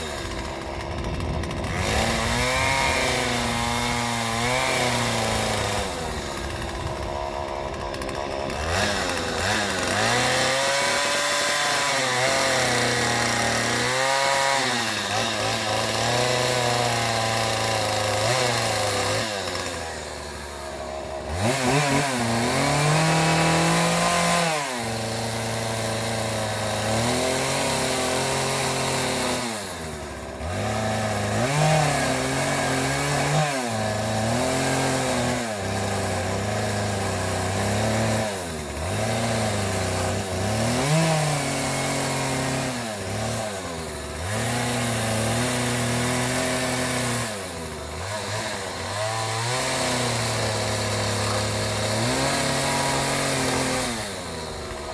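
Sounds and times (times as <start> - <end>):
chainsaw revving: 0.0 - 54.9.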